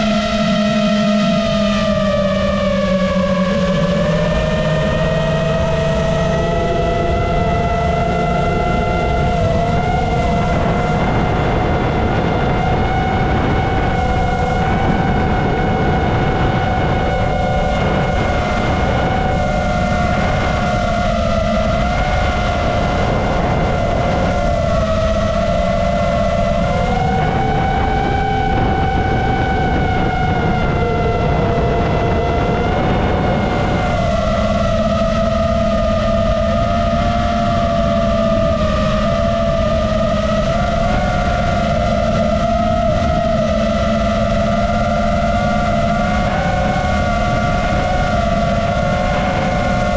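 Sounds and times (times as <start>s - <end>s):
drone motors whining: 0.0s - 49.9s
wind rumble on microphone: 0.0s - 49.9s.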